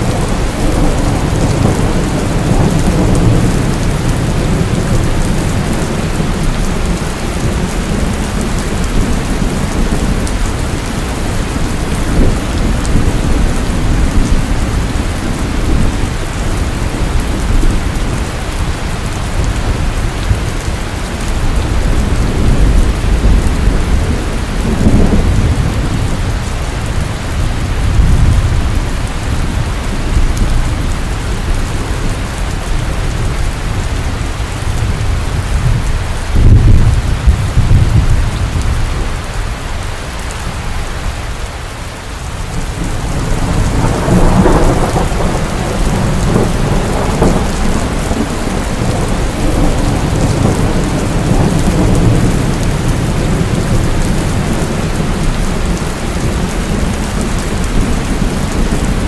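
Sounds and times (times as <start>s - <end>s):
thunder rolling: 0.0s - 39.3s, 42.5s - 59.0s
steady rain falling: 0.0s - 59.0s.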